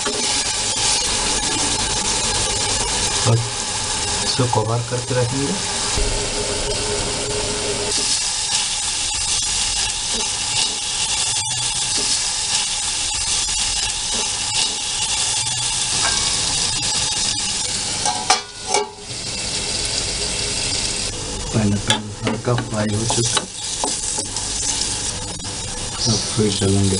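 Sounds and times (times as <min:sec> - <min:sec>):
pineapple sizzling in oil: 0:00.0 - 0:26.9.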